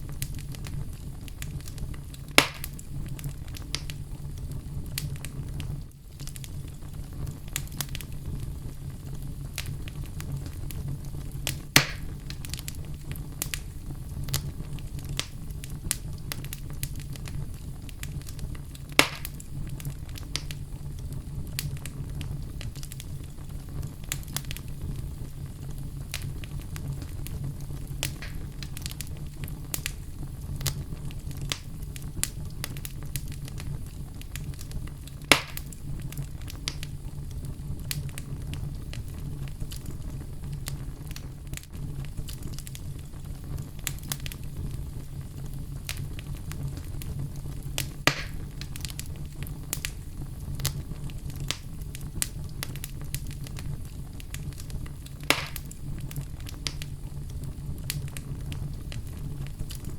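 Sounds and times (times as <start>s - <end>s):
fire crackling: 0.0s - 59.9s
loud sharp pops of burning logs: 0.0s - 59.9s
low rumble of flame: 0.0s - 59.9s.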